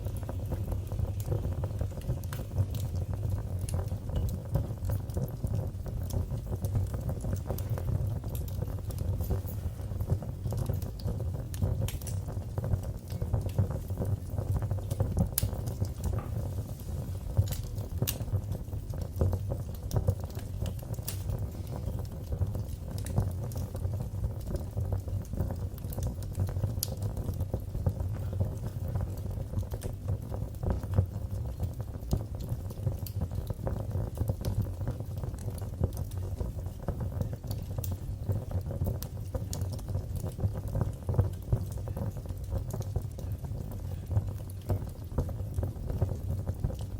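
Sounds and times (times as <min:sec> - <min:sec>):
fire pops and snaps: 0:00.0 - 0:46.9
low rumble of burning: 0:00.0 - 0:46.9.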